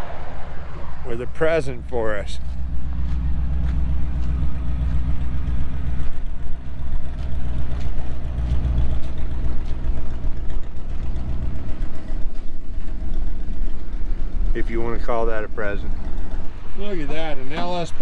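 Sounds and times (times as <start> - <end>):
pickup truck engine idling: 0.0 - 18.0.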